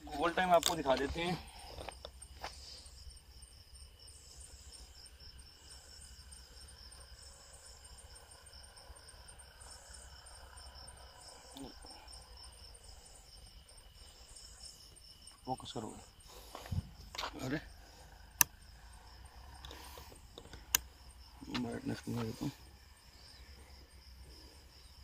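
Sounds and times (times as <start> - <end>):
crickets chirping: 0.0 - 25.0
loud cricket chirp: 0.0 - 25.0.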